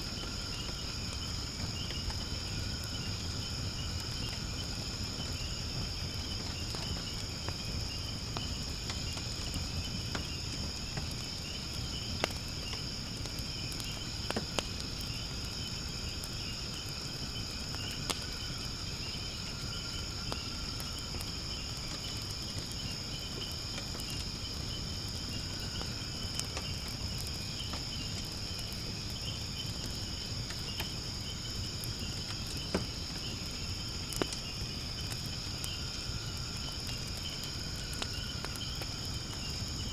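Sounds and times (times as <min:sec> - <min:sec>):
insects chirping: 0:00.0 - 0:39.9
wood fire crackling: 0:00.0 - 0:39.9.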